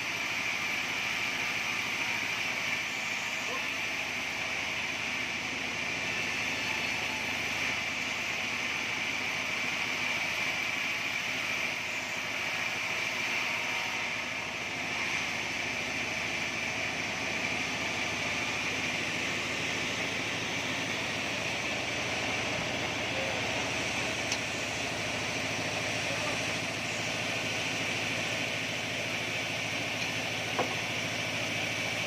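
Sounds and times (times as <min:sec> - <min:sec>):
band saw running: 0:00.0 - 0:32.0
constant high tone: 0:00.0 - 0:32.0.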